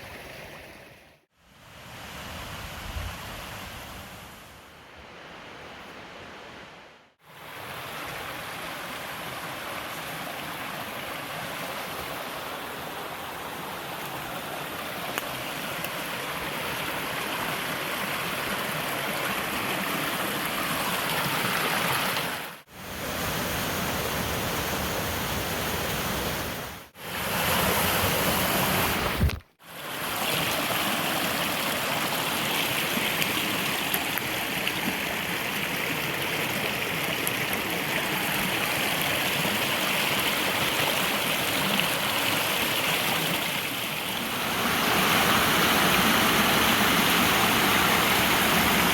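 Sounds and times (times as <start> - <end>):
water rushing over rocks: 7.4 - 48.9.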